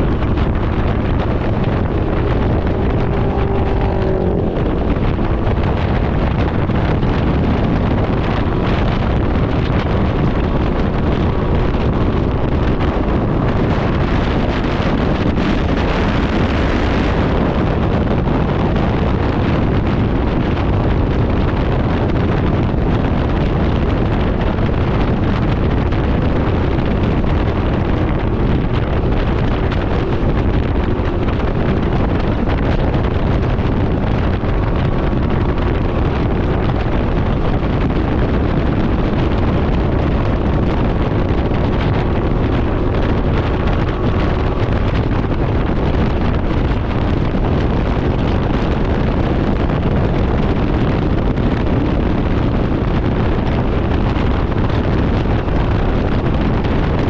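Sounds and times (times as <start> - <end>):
vehicle running and road noise: 0.0 - 57.0
wind buffeting microphone: 0.0 - 57.0.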